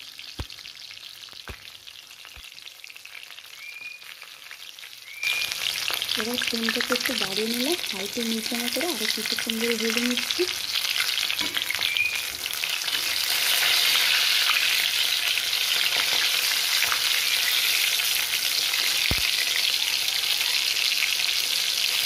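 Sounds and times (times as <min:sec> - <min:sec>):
fish frying in hot oil: 0:00.0 - 0:22.0.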